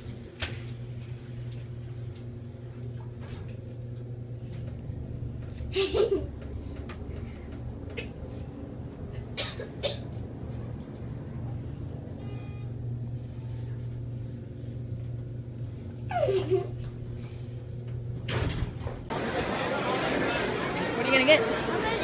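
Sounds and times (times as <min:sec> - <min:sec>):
elevator humming: 0:00.0 - 0:22.0.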